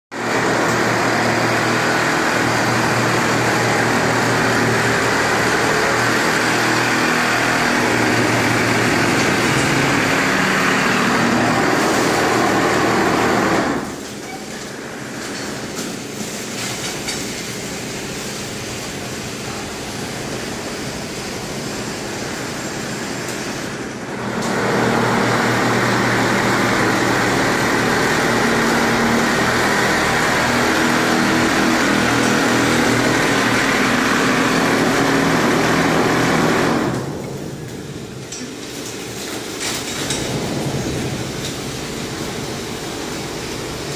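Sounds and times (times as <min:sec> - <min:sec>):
plastering machine mechanical drone: 0:00.2 - 0:43.9.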